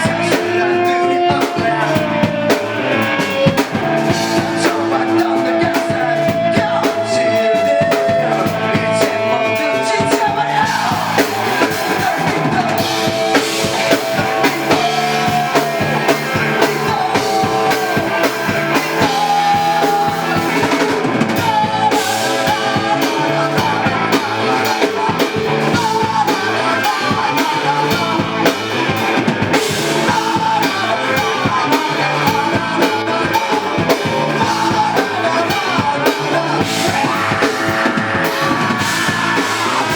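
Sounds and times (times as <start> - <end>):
drum kit beat: 0.0 - 39.9
person singing: 0.0 - 39.9
rock band playing live: 0.0 - 39.9.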